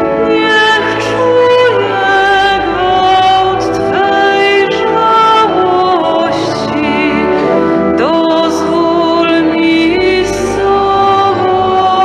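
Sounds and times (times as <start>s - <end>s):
church organ: 0.0s - 12.0s
woman singing a hymn: 0.0s - 12.0s.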